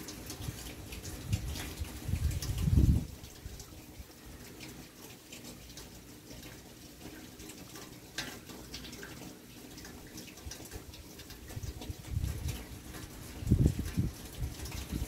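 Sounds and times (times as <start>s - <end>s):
drips ticking: 0.0s - 15.0s
rain falling and running: 0.0s - 15.0s.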